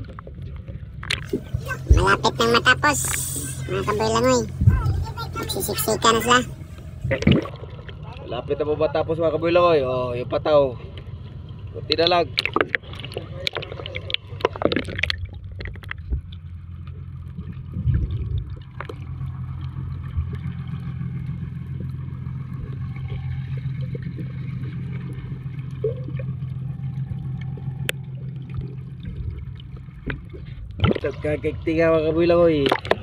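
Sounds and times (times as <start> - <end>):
boat engine droning: 0.0 - 33.0
water gurgling: 0.0 - 33.0.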